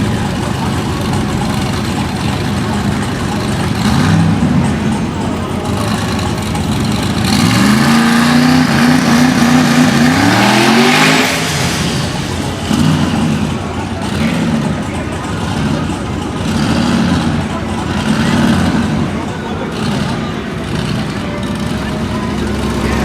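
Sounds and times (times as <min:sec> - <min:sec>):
drag racing car engines accelerating: 0:00.0 - 0:23.0.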